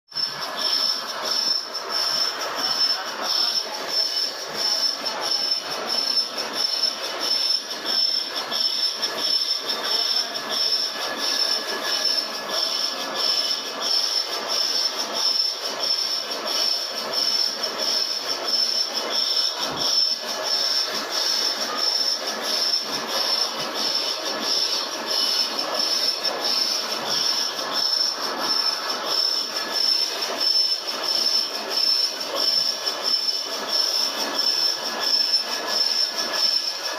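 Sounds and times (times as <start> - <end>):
cutting tool squealing on metal: 0.1 - 36.9
lathe running noise: 0.1 - 36.9.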